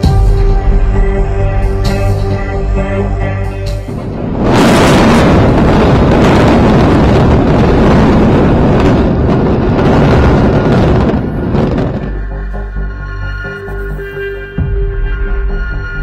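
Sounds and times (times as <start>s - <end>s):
demolition blast rumble: 0.0s - 13.0s.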